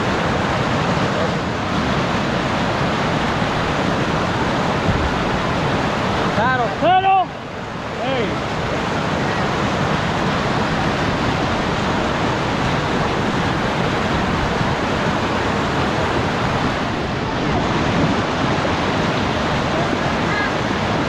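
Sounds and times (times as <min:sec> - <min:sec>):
whitewater rushing over ledge: 0:00.0 - 0:21.0.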